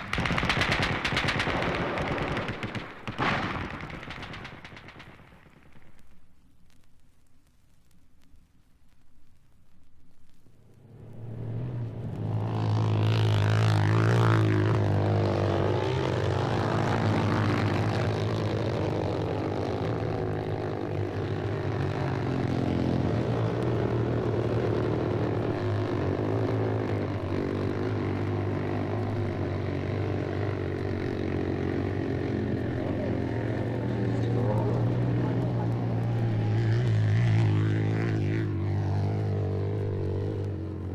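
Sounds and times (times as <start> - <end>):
engine humming: 0.0 - 6.4, 10.0 - 40.9.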